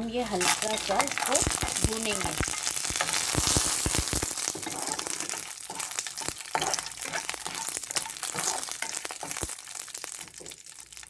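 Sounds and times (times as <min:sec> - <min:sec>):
chillies sizzling and crackling: 0:00.0 - 0:11.0
spatula clicking and scraping pan: 0:00.2 - 0:11.0.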